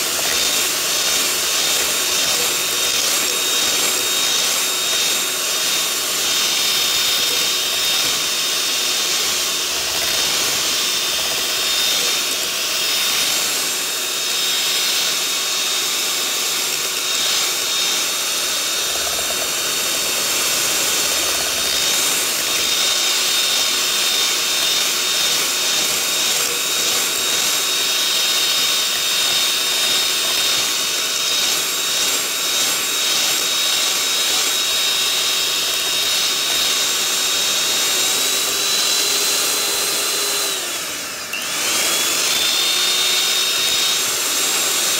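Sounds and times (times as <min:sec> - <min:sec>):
electric hand mixer whirring: 0:00.0 - 0:44.9.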